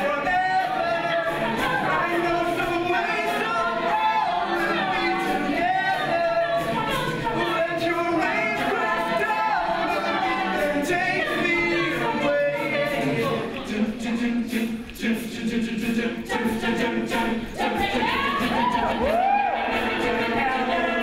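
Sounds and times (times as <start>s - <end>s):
a cappella group singing: 0.0s - 21.0s
vocal percussion beat: 0.0s - 21.0s.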